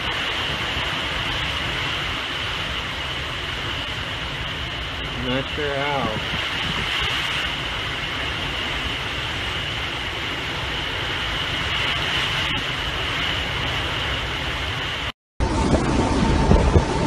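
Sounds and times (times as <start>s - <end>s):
driving rain: 0.0s - 17.0s
hurricane wind: 0.0s - 17.0s
wind buffeting microphone: 0.0s - 17.0s.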